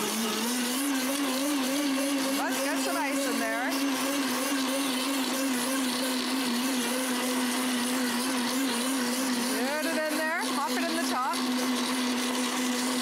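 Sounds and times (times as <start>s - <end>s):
blender motor whine: 0.0s - 13.0s
thick ice mixture churning: 0.0s - 13.0s.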